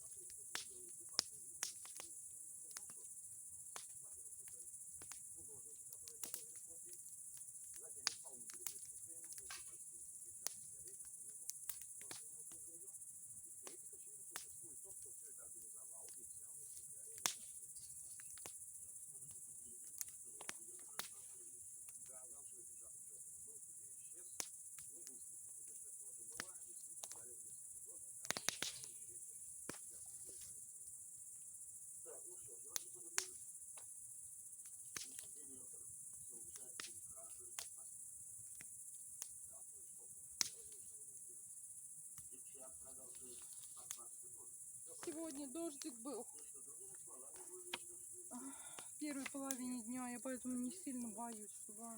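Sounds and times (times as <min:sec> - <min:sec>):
sharp pops from fire: 0:00.0 - 0:30.8, 0:32.0 - 0:51.9
bonfire crackling: 0:00.0 - 0:51.9
crickets chirring: 0:00.0 - 0:51.9.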